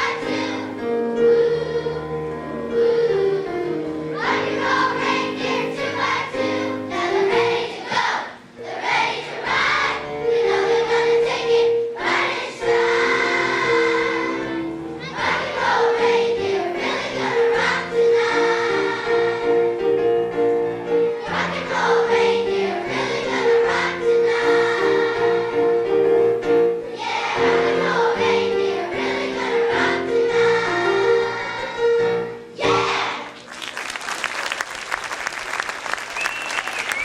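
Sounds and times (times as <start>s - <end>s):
children's choir singing: 0.0s - 33.6s.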